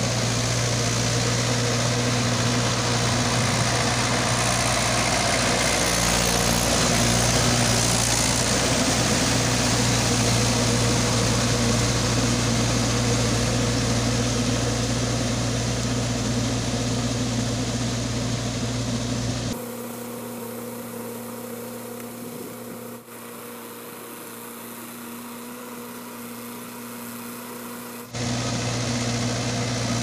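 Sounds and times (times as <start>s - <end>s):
churned water and mud rushing: 0.0s - 30.0s
tractor diesel engine hum: 0.0s - 30.0s.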